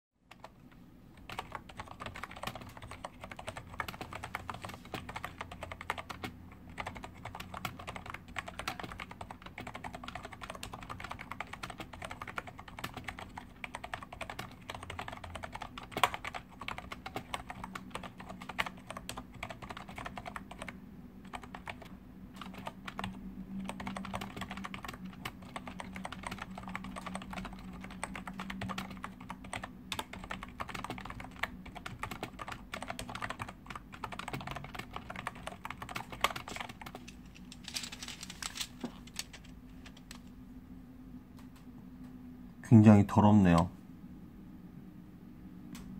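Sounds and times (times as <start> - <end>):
keyboard typing: 0.3 - 40.3.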